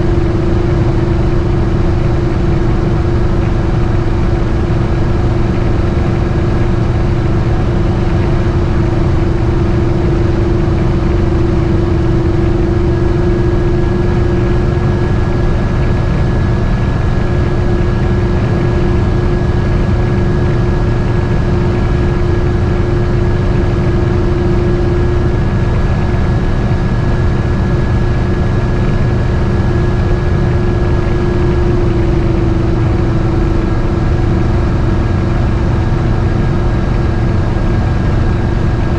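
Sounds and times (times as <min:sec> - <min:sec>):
motorhome engine droning: 0:00.0 - 0:38.9
road noise: 0:00.0 - 0:38.9.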